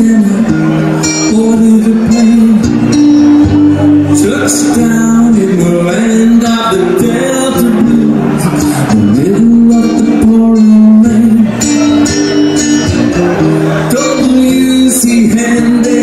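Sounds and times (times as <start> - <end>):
man singing: 0.0 - 16.0
strummed acoustic guitar: 0.0 - 16.0.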